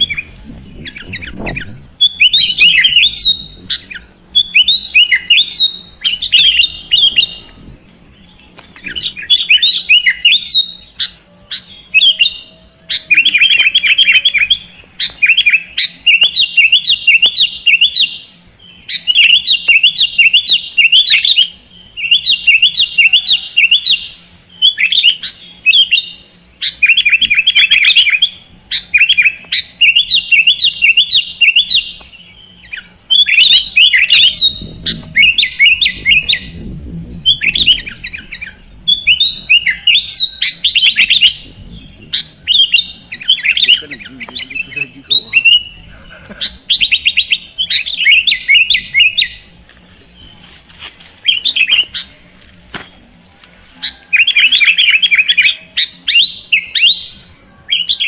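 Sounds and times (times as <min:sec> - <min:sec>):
bird singing chattering phrases: 0:00.0 - 0:58.0.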